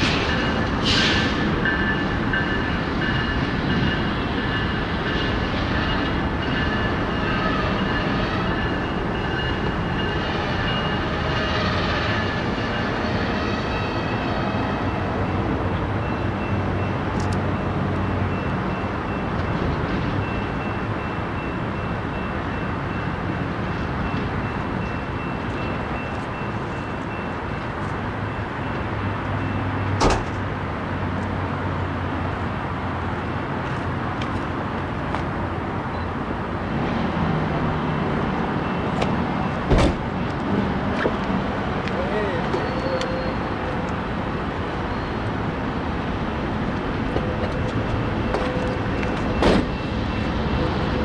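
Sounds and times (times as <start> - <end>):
freeway traffic noise: 0.0 - 51.0.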